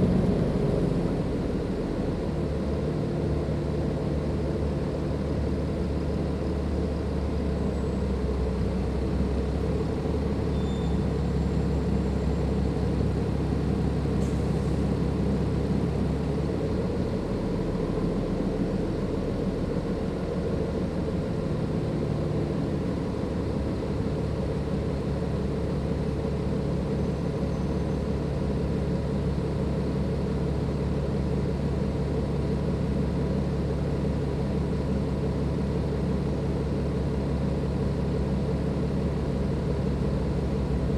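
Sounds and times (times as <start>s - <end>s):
bus diesel engine running: 0.0s - 40.9s
faint turbo whine: 0.0s - 40.9s.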